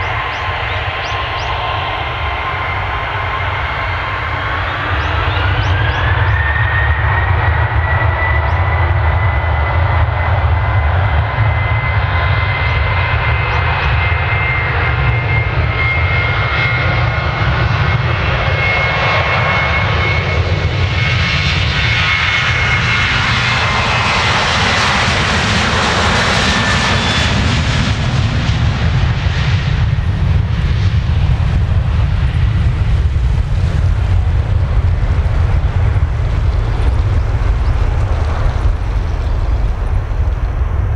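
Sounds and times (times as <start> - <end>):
jet engines whining and rumbling: 0.0 - 40.9.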